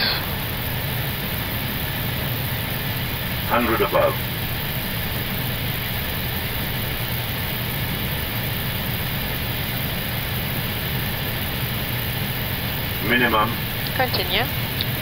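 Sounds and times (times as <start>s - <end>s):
aircraft engine noise: 0.0s - 15.0s.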